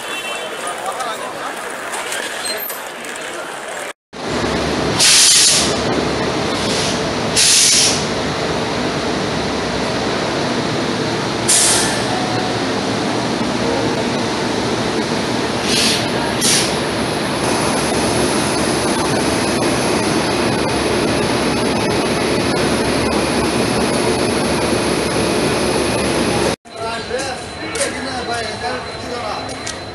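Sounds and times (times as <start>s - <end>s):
train running noise: 0.0s - 29.9s.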